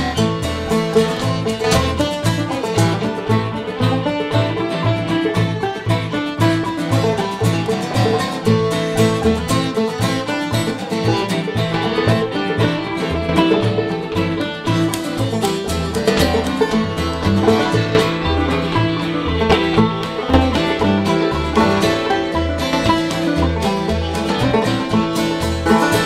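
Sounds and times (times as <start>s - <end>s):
bass: 0.0s - 26.0s
clawhammer banjo: 0.0s - 26.0s
fiddle: 0.0s - 26.0s
strummed acoustic guitar: 0.0s - 26.0s.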